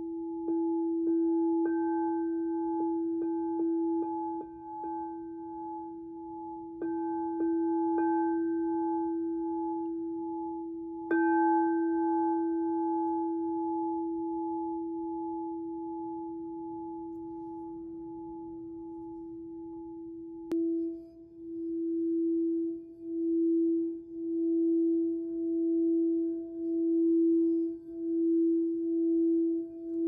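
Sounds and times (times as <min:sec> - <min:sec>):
singing bowl ringing: 0:00.0 - 0:30.0.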